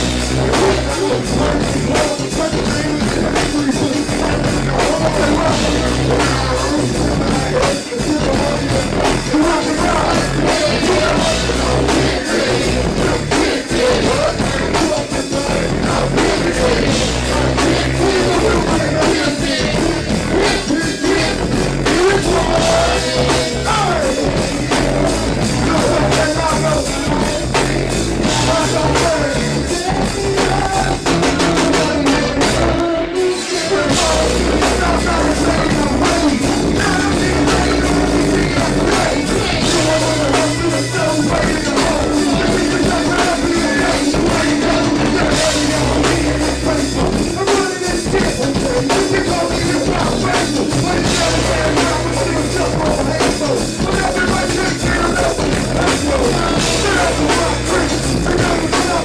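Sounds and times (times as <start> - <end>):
live band drum and bass groove: 0.0 - 59.0
person singing: 0.0 - 59.0.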